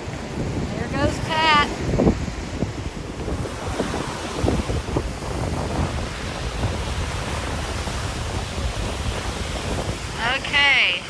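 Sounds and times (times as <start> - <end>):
waves on shore: 0.0 - 11.0
wind buffeting microphone: 0.0 - 11.0.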